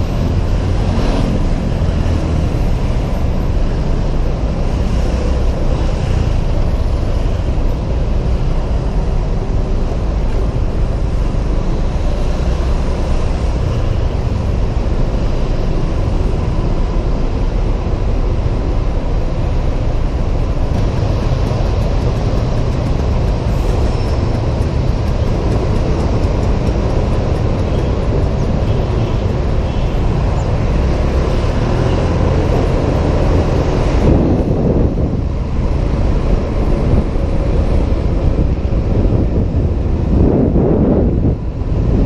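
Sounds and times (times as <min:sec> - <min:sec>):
road noise: 0:00.0 - 0:42.0
scooter engine: 0:00.0 - 0:42.0
wind on microphone: 0:00.0 - 0:42.0.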